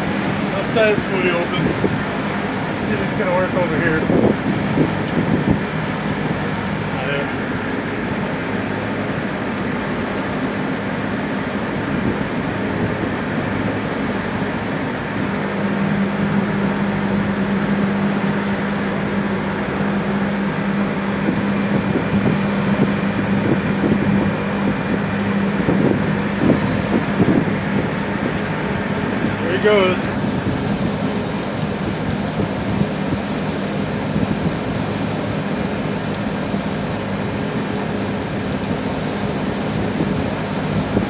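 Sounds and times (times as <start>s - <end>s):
rooftop hvac unit running: 0.0s - 41.0s.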